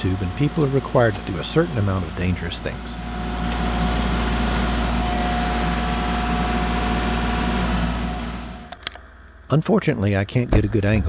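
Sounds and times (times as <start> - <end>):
tractor diesel engine running: 0.0 - 9.0.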